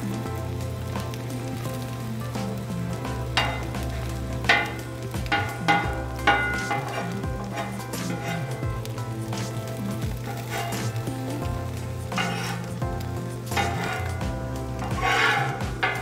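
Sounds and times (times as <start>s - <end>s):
eggs sizzling on griddle: 0.0s - 16.0s.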